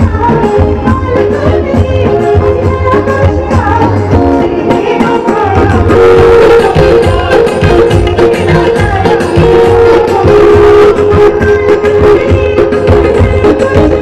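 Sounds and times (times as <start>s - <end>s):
live song with drums: 0.0s - 14.0s.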